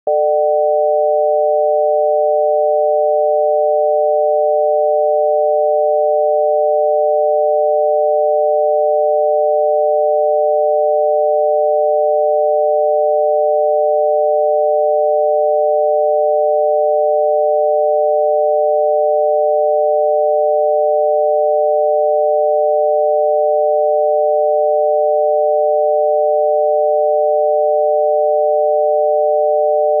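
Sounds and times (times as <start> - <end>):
telephone dial tone: 0.1 - 30.0.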